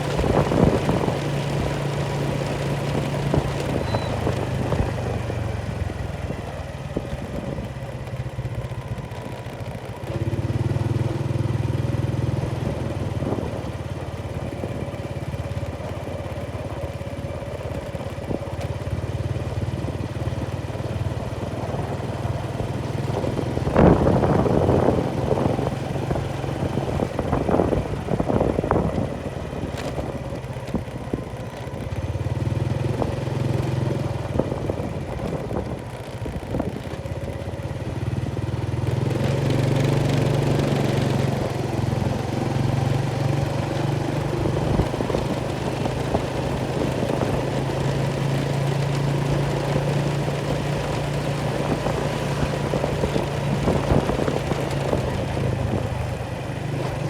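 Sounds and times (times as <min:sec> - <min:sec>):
motor engine running: 0:00.0 - 0:57.0.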